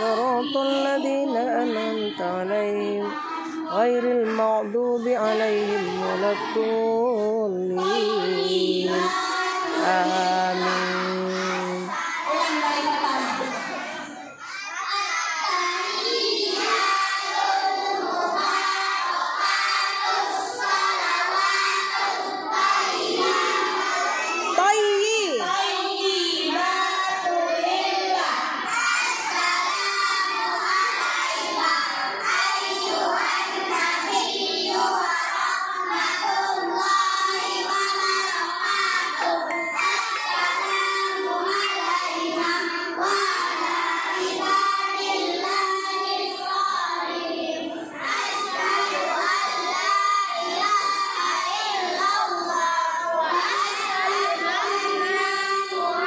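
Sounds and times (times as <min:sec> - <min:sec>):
children singing together: 0:00.0 - 0:24.7, 0:25.3 - 0:56.0.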